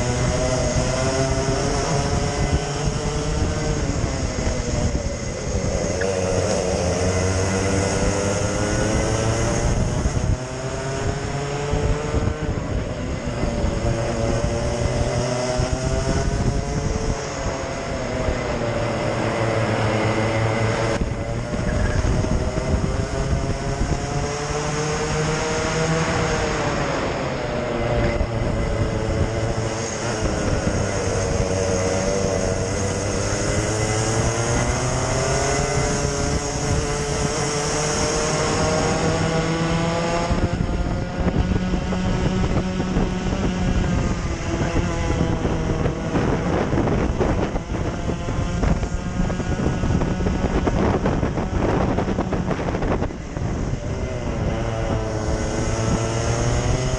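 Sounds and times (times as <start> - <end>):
kart engine revving: 0.0 - 56.9
other kart engines: 0.0 - 56.9.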